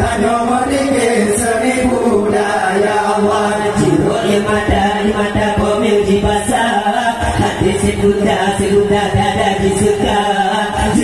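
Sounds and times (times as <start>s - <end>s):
group of voices chanting in unison: 0.0s - 11.0s.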